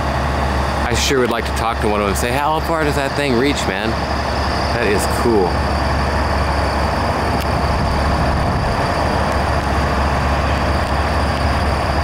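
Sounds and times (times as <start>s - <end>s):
diesel truck engines running: 0.0s - 12.0s.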